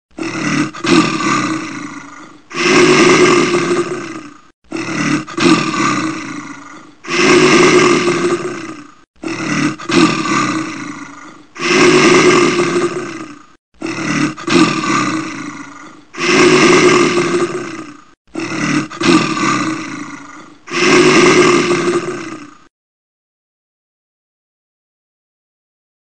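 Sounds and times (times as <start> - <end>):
loud animal calls: 0.2 - 22.4.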